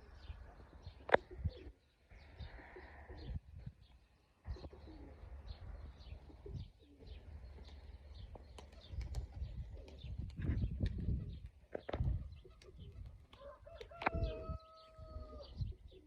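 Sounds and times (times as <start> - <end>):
pigeons cooing: 0.0 - 3.8, 4.4 - 16.0
birds chirping: 0.0 - 16.0
wind rumbling on microphone: 0.0 - 16.0.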